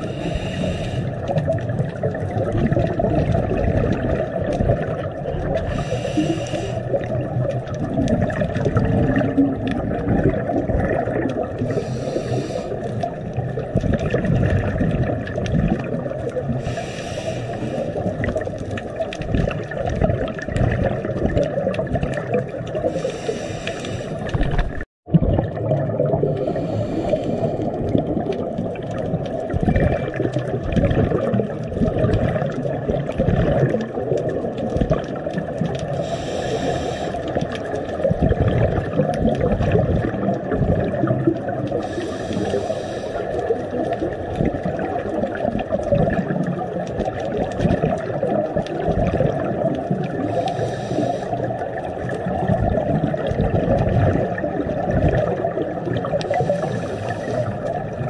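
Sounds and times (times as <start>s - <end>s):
scuba exhaust bubbles: 0.0s - 58.0s
underwater water rush: 0.0s - 58.0s.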